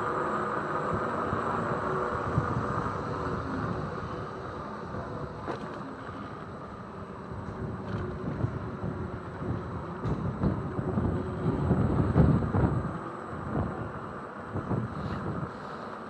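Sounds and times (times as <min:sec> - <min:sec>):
wind buffeting microphone: 0:00.1 - 0:15.7.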